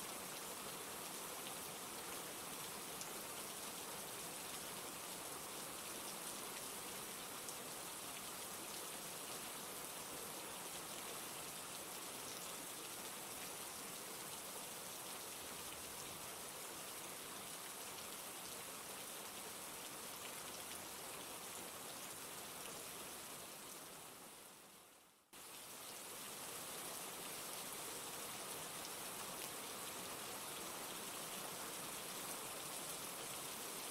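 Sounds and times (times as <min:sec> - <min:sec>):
rain patter: 0:00.0 - 0:33.9.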